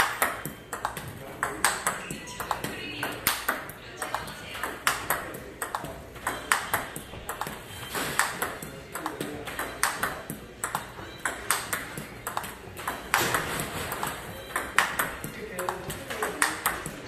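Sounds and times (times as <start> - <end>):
ball clicking off table tennis bats: 0.0 - 7.6, 8.2 - 17.0
ball ticking on table: 0.0 - 7.6, 8.2 - 17.0.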